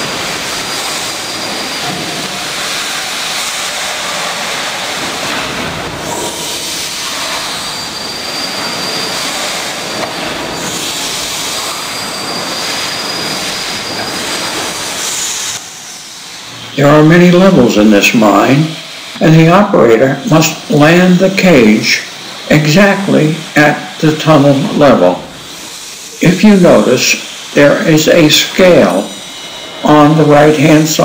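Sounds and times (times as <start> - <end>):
steam engine hissing and rumbling: 0.0 - 31.0.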